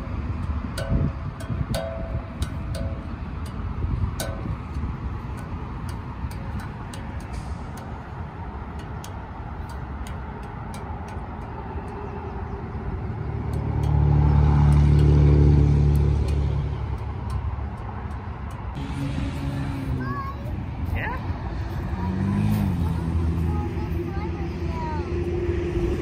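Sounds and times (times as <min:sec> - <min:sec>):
low steady rumble: 0:00.0 - 0:22.0
vehicle engine hum: 0:00.0 - 0:26.0.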